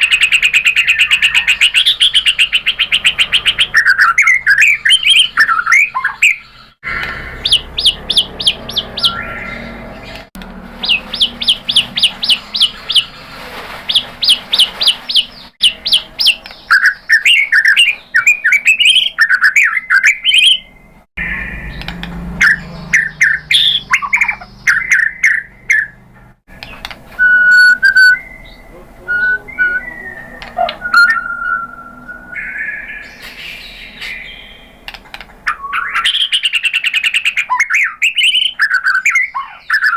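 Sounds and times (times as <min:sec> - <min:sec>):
songbird chirps and whistles: 0:00.0 - 0:26.0, 0:26.6 - 0:39.9.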